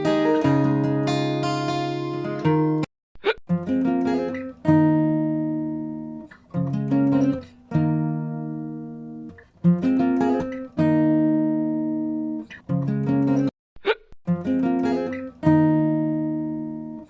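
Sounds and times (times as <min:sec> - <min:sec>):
acoustic guitar strumming: 0:00.0 - 0:02.9, 0:03.5 - 0:13.5, 0:14.3 - 0:17.0.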